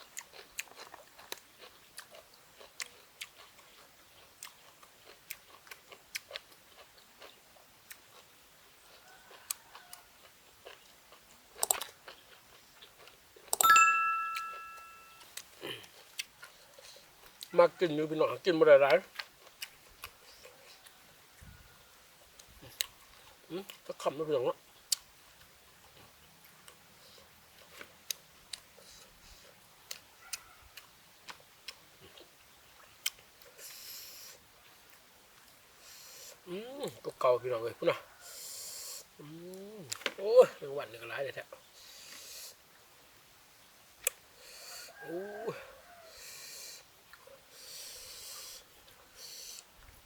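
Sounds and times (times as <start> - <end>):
chewing and crunching food: 0.0 - 13.6, 15.2 - 42.6, 44.0 - 50.0.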